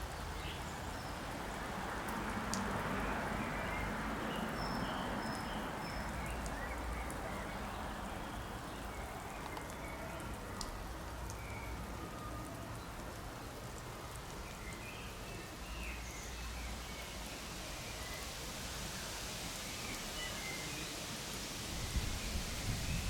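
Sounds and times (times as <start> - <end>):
garden sprinkler spraying water: 0.0 - 23.0.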